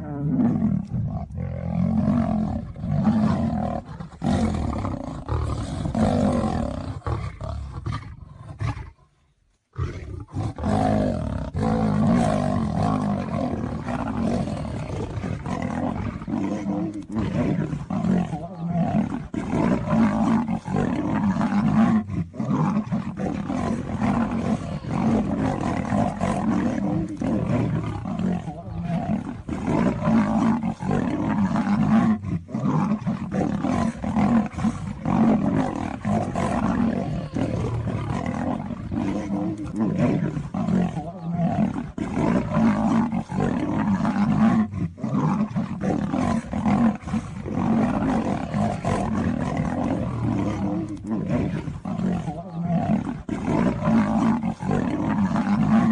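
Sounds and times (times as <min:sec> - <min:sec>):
big cats roaring and fighting: 0:00.0 - 0:09.0, 0:09.8 - 0:55.9.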